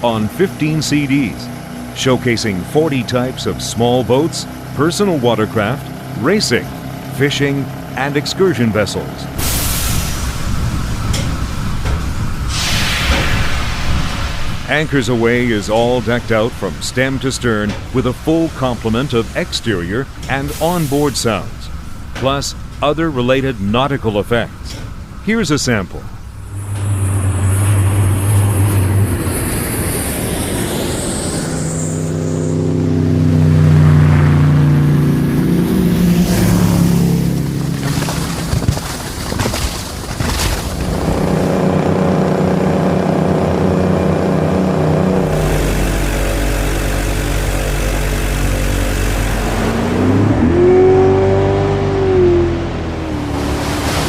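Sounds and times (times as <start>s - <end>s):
motorboat engines running and revving: 0.0s - 12.7s, 14.4s - 54.0s.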